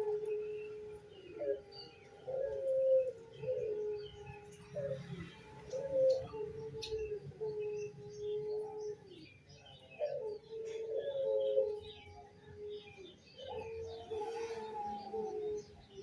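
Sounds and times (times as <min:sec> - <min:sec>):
doves cooing: 0:00.0 - 0:16.0
small birds chirping: 0:00.0 - 0:16.0.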